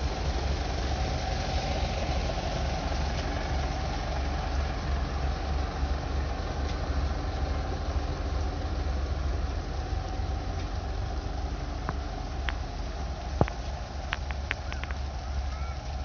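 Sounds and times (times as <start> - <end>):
diesel truck engines idling: 0.0 - 16.0.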